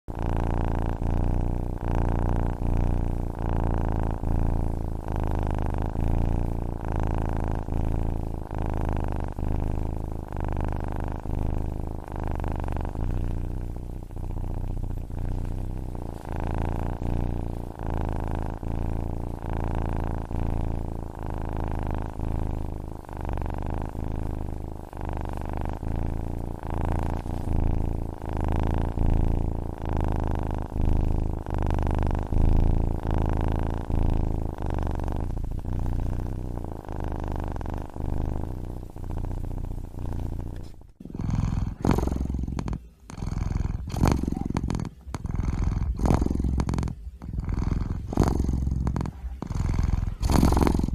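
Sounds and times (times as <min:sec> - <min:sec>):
cat purring: 0:00.0 - 0:50.9.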